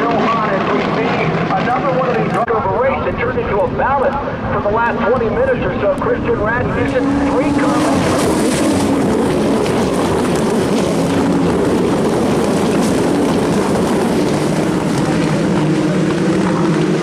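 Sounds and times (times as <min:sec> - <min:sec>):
race cars passing at speed: 0:03.1 - 0:17.0.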